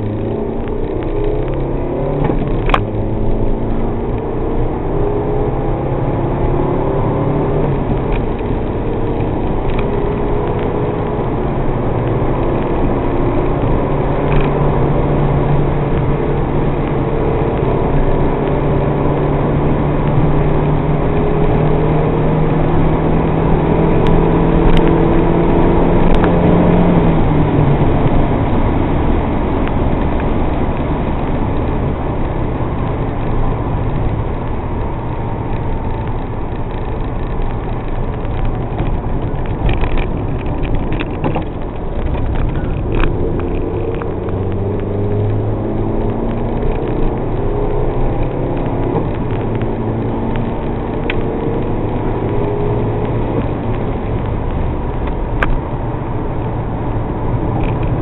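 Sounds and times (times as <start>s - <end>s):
car engine running hard: 0.0s - 58.0s
road and wind noise: 0.0s - 58.0s.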